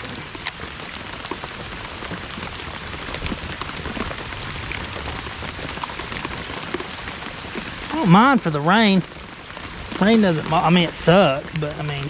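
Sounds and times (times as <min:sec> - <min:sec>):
raindrops ticking close by: 0:00.0 - 0:12.0
steady rain falling: 0:00.0 - 0:12.0.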